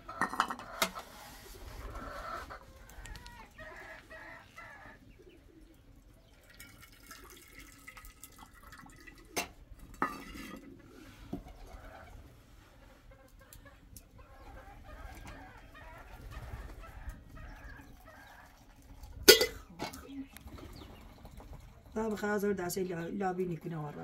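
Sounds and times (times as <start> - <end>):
chickens clucking: 0.0 - 6.4, 9.2 - 24.0.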